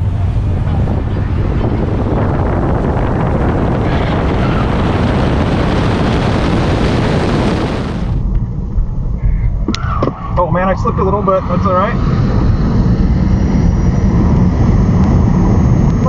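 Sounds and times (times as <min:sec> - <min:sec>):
in-car noise: 0:00.0 - 0:16.0
wind rush and road noise: 0:00.0 - 0:16.0.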